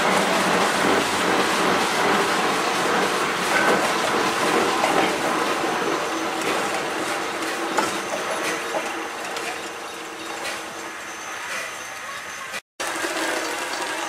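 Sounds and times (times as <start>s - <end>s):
steam locomotive hissing steam: 0.0s - 12.6s.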